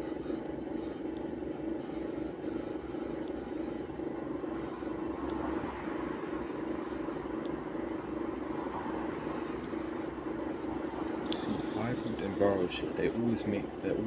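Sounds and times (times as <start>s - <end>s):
parked bus whirring drone: 0.0s - 14.0s.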